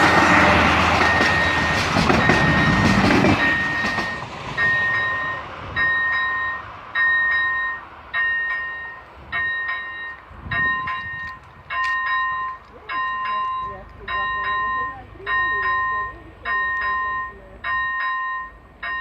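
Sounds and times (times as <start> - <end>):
passing train rumble: 0.0 - 19.0
level crossing bell ringing: 1.1 - 19.0.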